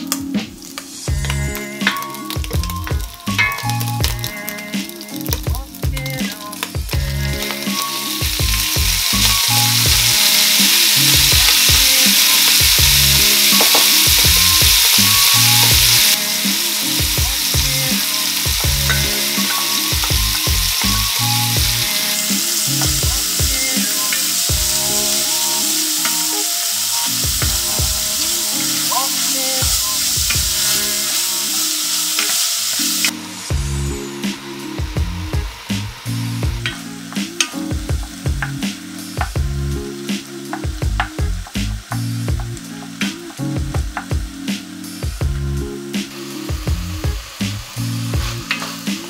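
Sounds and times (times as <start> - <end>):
meat sizzling in hot oil: 0.0 - 49.0.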